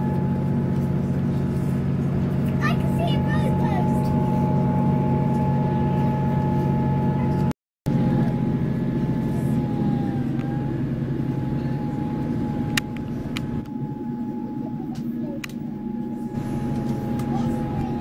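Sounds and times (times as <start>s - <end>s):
diesel train engine rumble: 0.0s - 18.0s
thin steady whine: 0.0s - 18.0s.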